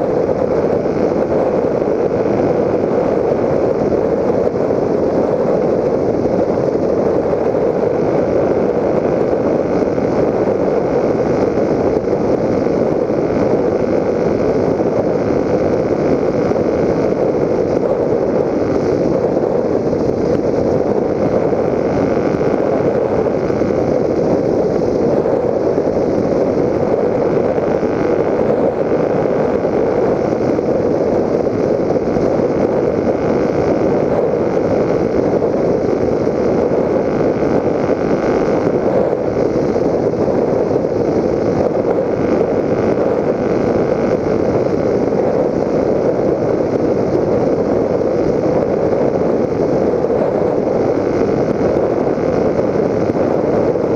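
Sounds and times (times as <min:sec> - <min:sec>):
model plane rushing drone: 0:00.0 - 0:53.9.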